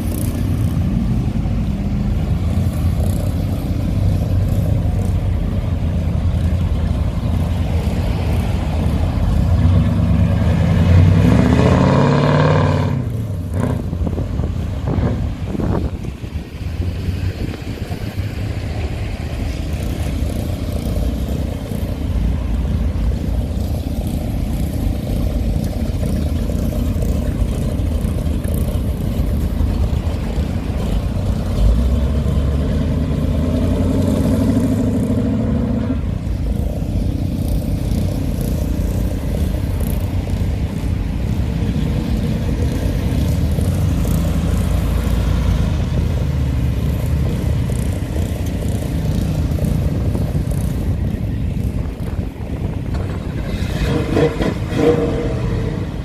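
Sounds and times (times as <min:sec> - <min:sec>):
car engines rumbling past: 0:00.0 - 0:56.0.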